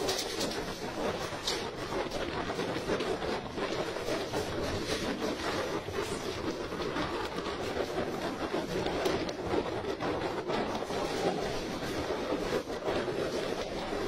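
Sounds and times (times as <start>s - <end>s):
wind noise: 0.0s - 14.0s.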